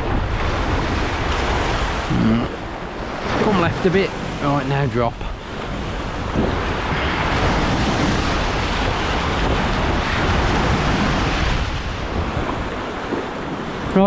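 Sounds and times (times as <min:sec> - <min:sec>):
sea waves breaking: 0:00.0 - 0:14.0
wind rumbling on microphone: 0:00.0 - 0:14.0.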